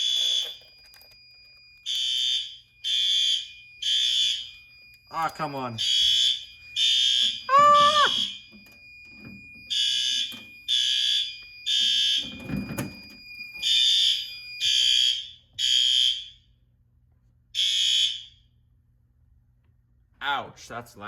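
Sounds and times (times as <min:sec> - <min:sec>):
fire alarm horn blasts: 0:00.0 - 0:16.6, 0:17.6 - 0:18.6.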